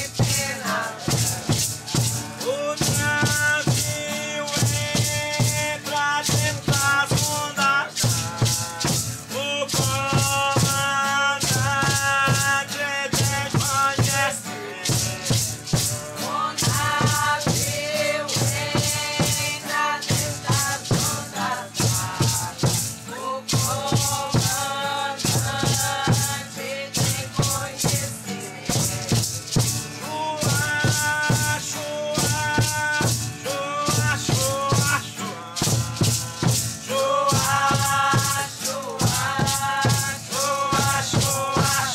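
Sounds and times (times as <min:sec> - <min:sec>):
hand rattles shaken: 0:00.0 - 0:41.9
people singing: 0:00.0 - 0:41.9.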